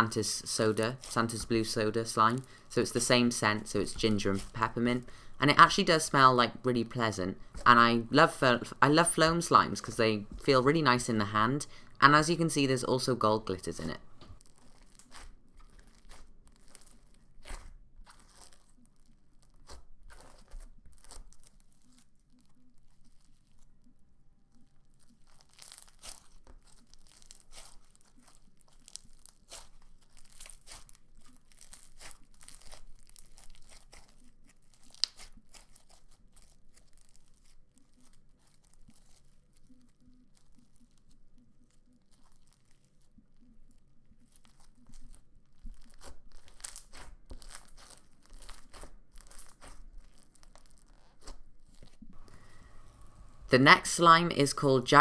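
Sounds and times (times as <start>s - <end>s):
foam slime crunching: 0.0s - 6.3s, 13.8s - 23.7s, 24.8s - 43.2s, 44.2s - 54.4s.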